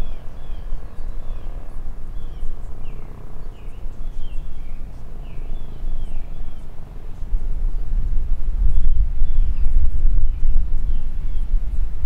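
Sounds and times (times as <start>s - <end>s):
bird chirping: 0.0s - 11.9s
wind buffeting the microphone: 0.0s - 12.0s.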